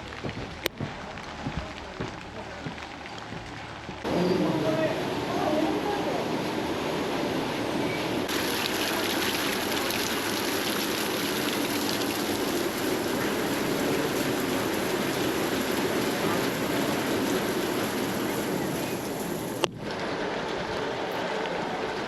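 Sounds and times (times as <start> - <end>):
heavy rain rushing: 0.0 - 22.0.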